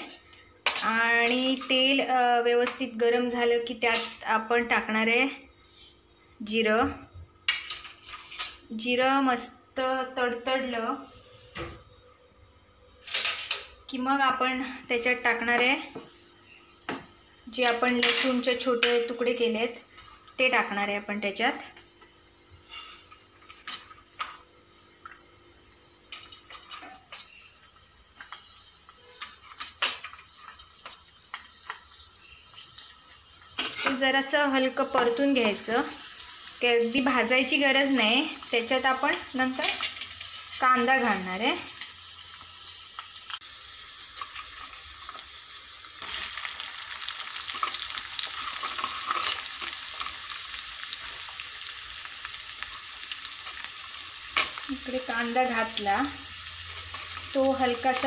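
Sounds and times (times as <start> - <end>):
garlic sizzling in hot oil: 0.0 - 58.0.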